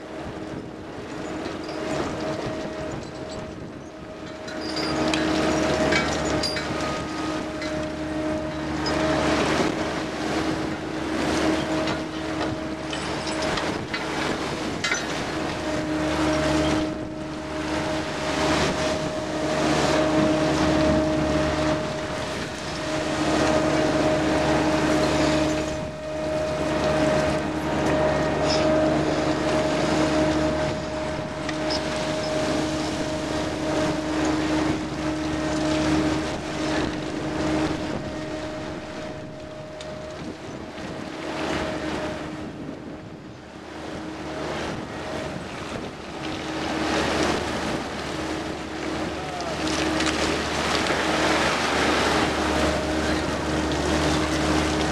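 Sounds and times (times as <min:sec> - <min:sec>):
machinery hum with whine: 0:00.0 - 0:54.9
sea wash: 0:00.0 - 0:54.9
wind on microphone: 0:00.0 - 0:54.9.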